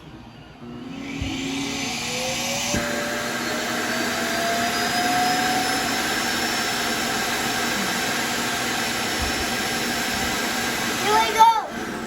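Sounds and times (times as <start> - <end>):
robot vacuum motor whining: 0.9 - 12.0.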